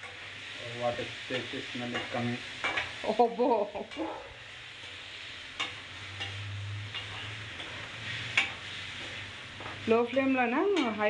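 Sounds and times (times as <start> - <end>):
chicken sizzling in pan: 0.0 - 11.0.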